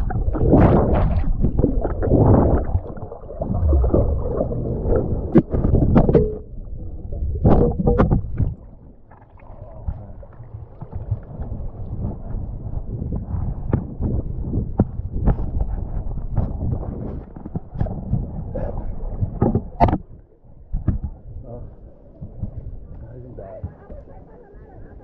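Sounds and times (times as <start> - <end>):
underwater sloshing and gurgling: 0.0 - 25.0.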